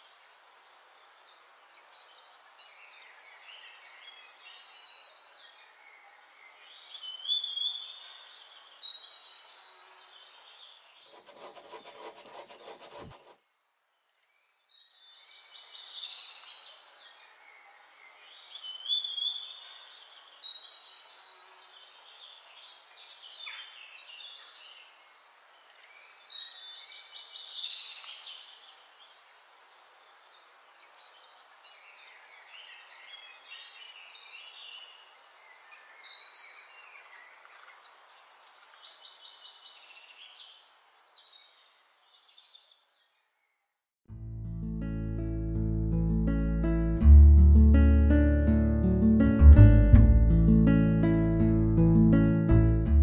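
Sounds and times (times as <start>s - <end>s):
small birds chirping: 0.0s - 43.7s.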